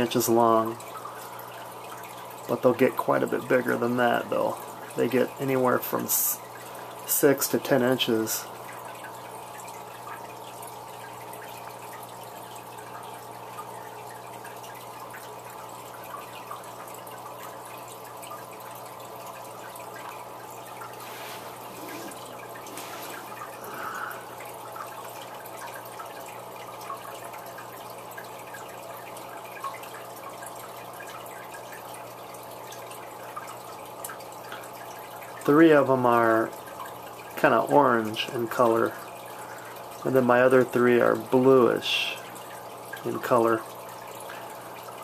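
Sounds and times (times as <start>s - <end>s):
water trickling and splashing: 0.0s - 45.0s.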